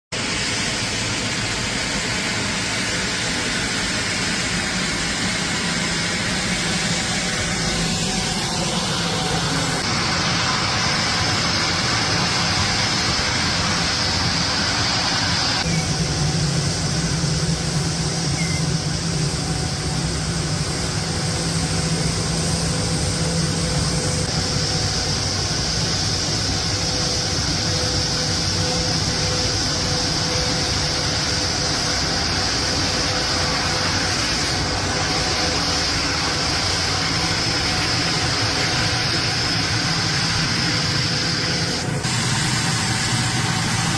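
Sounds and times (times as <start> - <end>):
jet engines running: 0.1 - 43.9.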